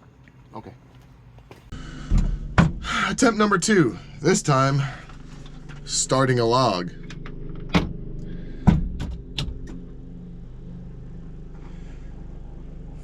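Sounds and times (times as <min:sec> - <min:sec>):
car cabin hum: 0:01.6 - 0:13.0.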